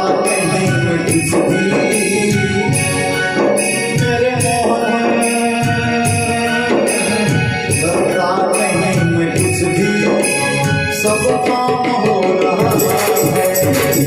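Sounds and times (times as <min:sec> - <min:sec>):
tabla and octapad percussion: 0:00.0 - 0:14.0.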